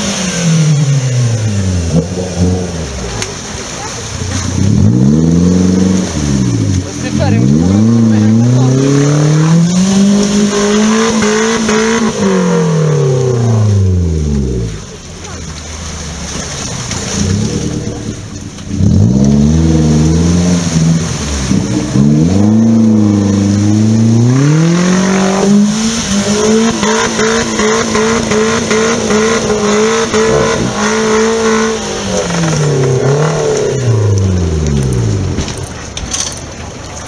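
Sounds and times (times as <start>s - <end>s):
car engine revving hard: 0.0s - 14.9s, 17.1s - 35.4s
wheels spinning in mud: 0.0s - 37.0s.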